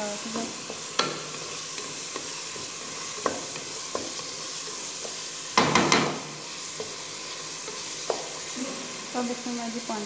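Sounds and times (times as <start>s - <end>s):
peas sizzling in oil: 0.0s - 10.0s
spoon scraping pan: 0.2s - 9.2s.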